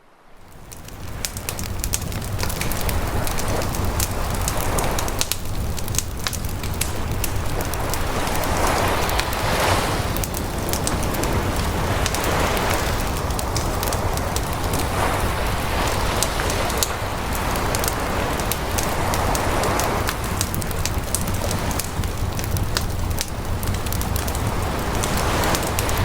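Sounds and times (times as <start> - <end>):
waves washing in: 0.0 - 26.0
wood fire crackling and popping: 0.4 - 26.0.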